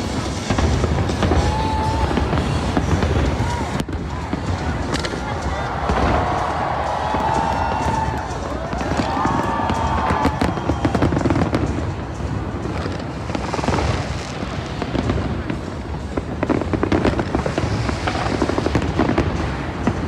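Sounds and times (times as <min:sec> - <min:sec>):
crowd voices: 0:00.0 - 0:20.0
fireworks bangs and crackles: 0:00.0 - 0:20.0
music: 0:00.0 - 0:20.0.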